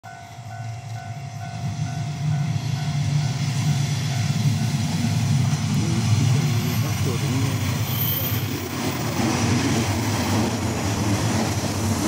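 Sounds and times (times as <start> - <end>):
diesel railcar rumbling: 0.0 - 12.0.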